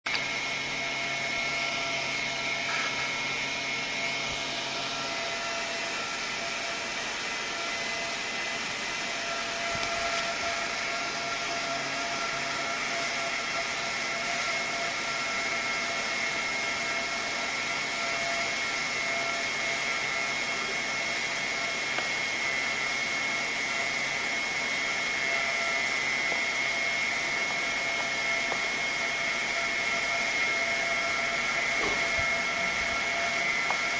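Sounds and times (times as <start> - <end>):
electric fan whirring: 0.0 - 33.9.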